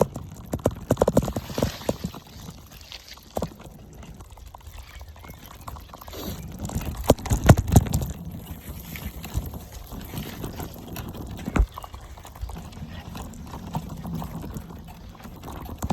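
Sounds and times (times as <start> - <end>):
bike rolling over dirt trail: 0.0 - 15.9.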